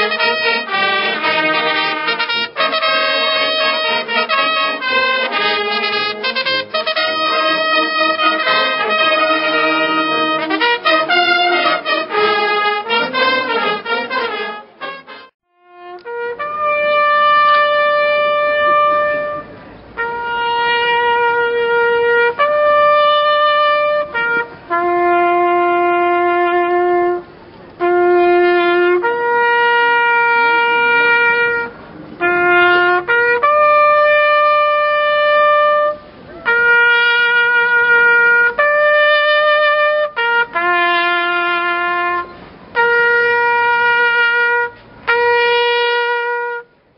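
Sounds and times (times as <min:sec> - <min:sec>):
trumpets playing slow melody: 0:00.0 - 0:46.8.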